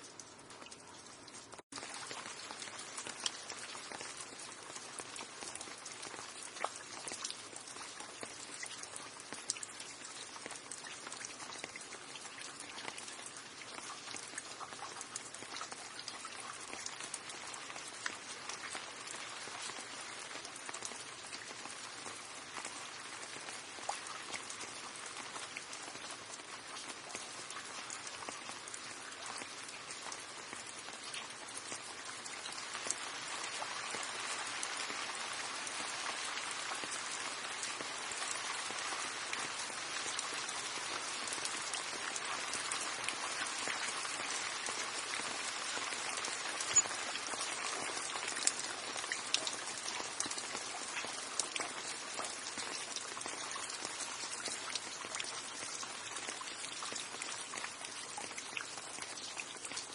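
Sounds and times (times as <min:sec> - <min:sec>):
rain drops pattering on hard surface: 0:00.0 - 0:59.9.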